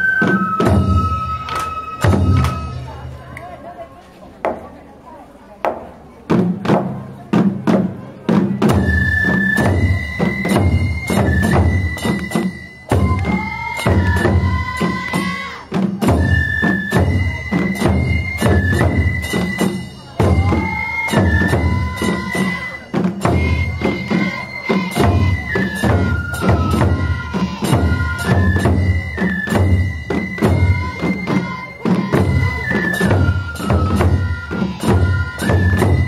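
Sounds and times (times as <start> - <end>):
bamboo flutes playing melody: 0.0 - 3.3, 8.4 - 36.0
small drums beating: 0.0 - 3.6, 4.4 - 4.8, 5.6 - 36.0.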